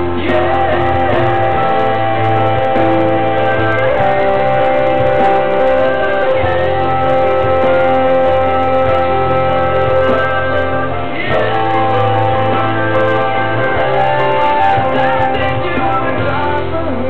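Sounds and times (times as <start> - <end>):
backing music track: 0.0 - 17.0.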